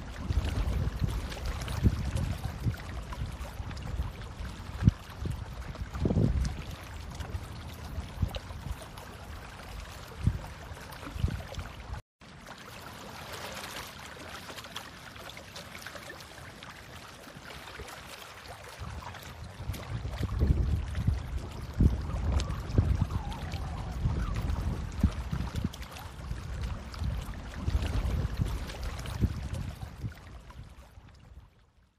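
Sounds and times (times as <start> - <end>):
water sloshing: 0.0 - 31.2.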